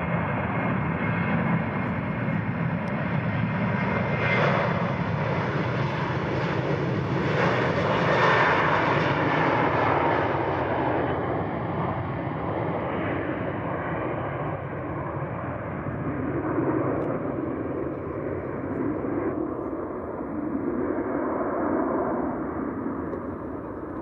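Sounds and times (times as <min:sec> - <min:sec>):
airplane engine roar: 0:00.0 - 0:24.0.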